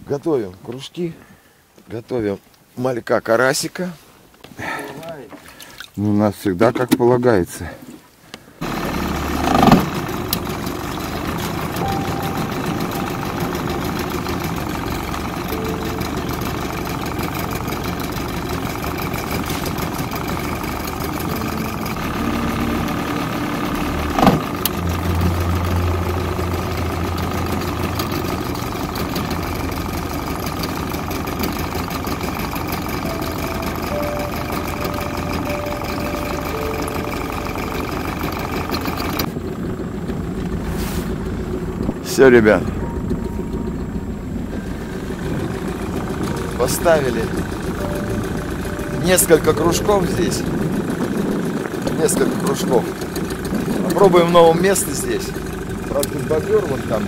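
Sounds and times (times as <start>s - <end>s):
boat motor running: 8.6s - 57.0s.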